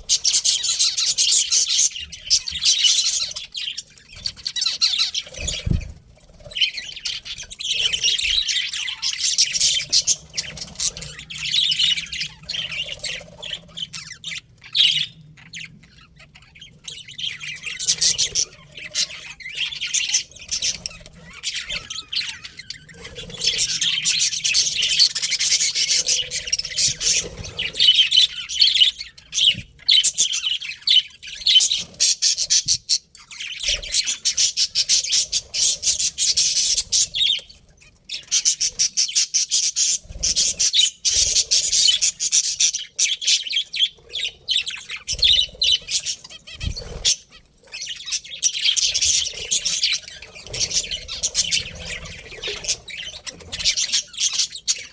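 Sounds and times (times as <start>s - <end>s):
budgerigars chirping: 0.0s - 54.9s.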